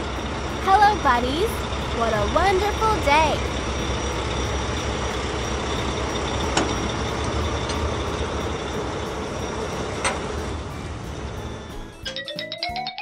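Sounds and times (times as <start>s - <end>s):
diesel engine low rumble: 0.0s - 12.2s.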